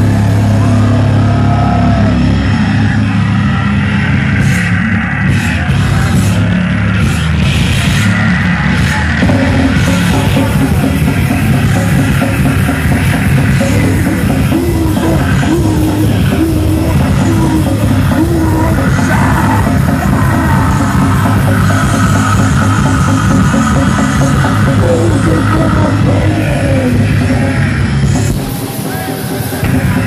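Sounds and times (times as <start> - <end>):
crust punk band playing: 0.0 - 30.0
distorted guitars: 0.0 - 30.0
drums: 0.0 - 30.0.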